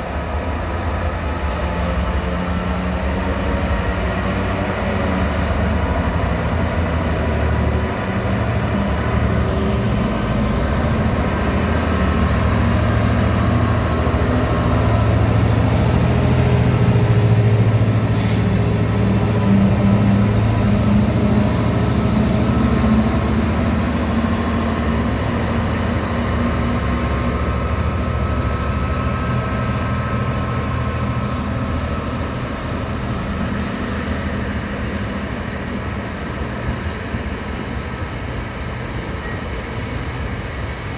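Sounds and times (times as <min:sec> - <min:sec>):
train engine low hum: 0:00.0 - 0:40.9.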